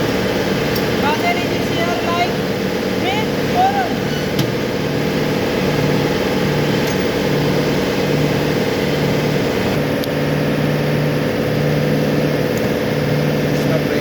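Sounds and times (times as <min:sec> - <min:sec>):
machine hum with mid-pitched tone: 0:00.0 - 0:14.0.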